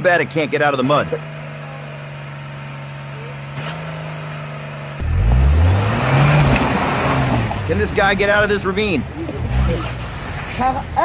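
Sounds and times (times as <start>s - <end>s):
engine revving: 0.0s - 11.0s
off-road vehicle engine running: 0.0s - 11.0s.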